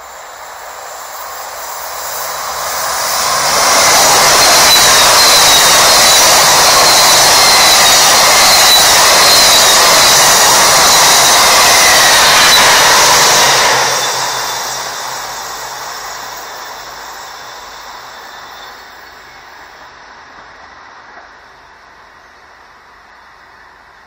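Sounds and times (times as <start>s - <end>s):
faint high whine: 0.0s - 24.0s
train wheels rolling on rails: 0.0s - 24.0s.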